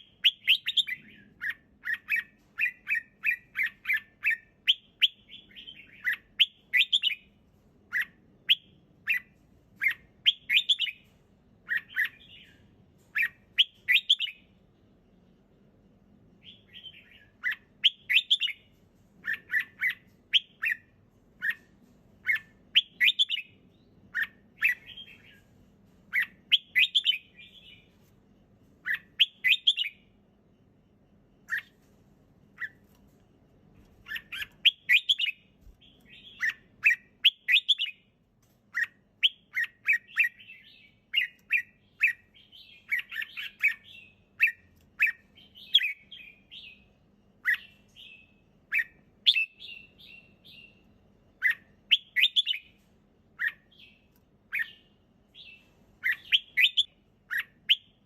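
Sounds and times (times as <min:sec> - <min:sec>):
bird singing chirping phrases: 0:00.0 - 0:07.3, 0:07.9 - 0:14.5, 0:16.4 - 0:21.6, 0:22.2 - 0:25.5, 0:26.1 - 0:28.0, 0:28.8 - 0:30.2, 0:34.0 - 0:38.1, 0:38.7 - 0:58.0.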